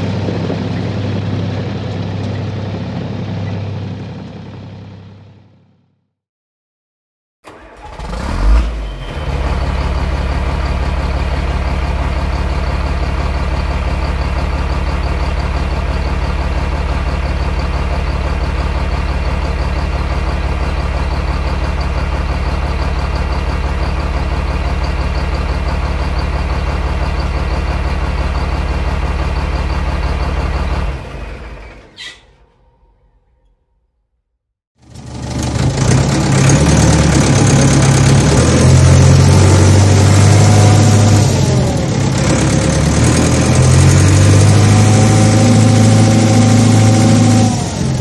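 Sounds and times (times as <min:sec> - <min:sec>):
heavy engine running: 0:00.0 - 0:06.0, 0:07.5 - 0:33.5, 0:34.8 - 0:48.0.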